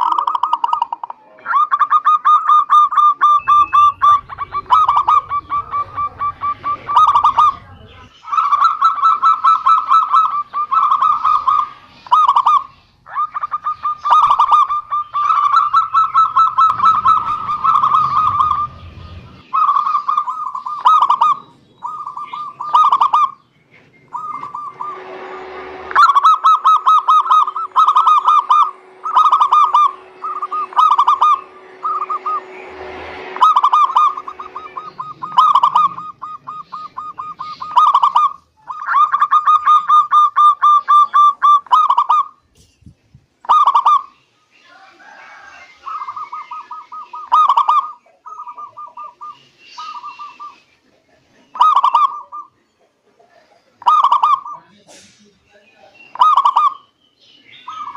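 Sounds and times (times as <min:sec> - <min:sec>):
doves cooing: 0:00.0 - 0:42.4, 0:43.4 - 0:54.7, 0:56.1 - 0:56.8.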